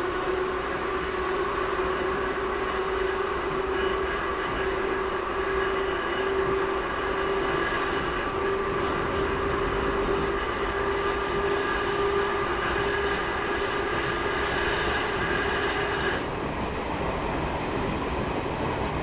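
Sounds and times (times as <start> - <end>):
electric train motor whine: 0.0 - 19.0
wheel and track rumble: 0.0 - 19.0.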